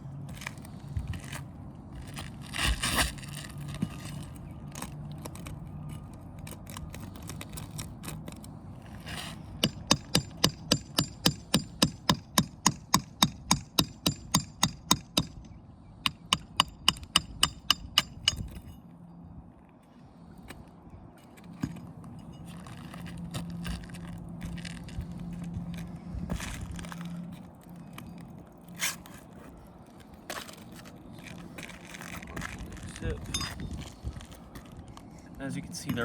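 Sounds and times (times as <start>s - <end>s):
shingle scraping: 0.2s - 15.5s, 21.2s - 36.0s.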